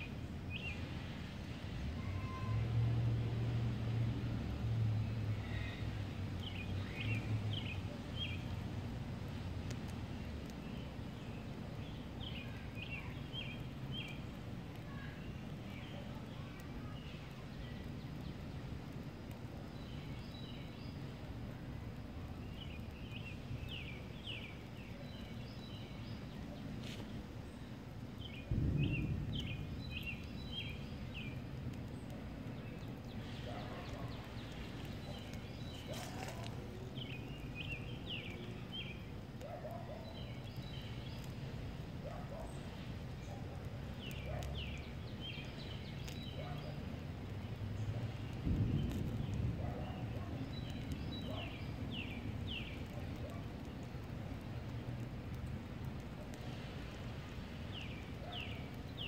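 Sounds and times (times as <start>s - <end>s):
small birds chirping: 0.0s - 2.7s, 4.5s - 59.0s
low rumble of breeze: 0.0s - 59.0s.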